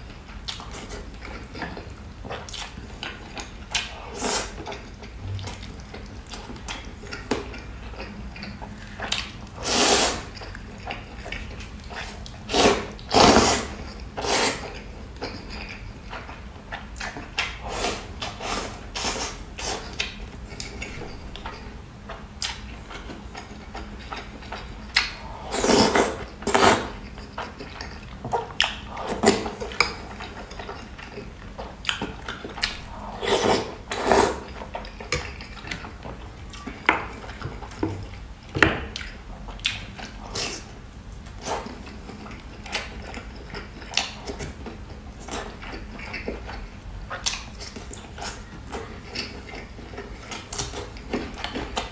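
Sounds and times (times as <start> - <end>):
chewing and slurping: 0.1 - 51.9.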